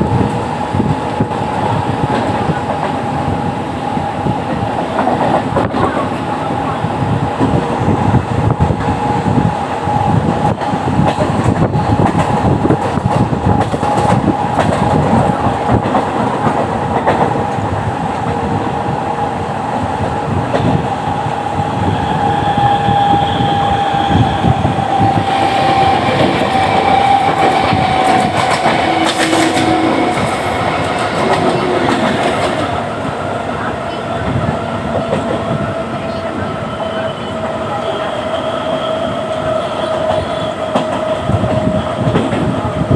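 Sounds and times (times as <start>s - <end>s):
train wheels clickety-clack: 0.0s - 42.9s.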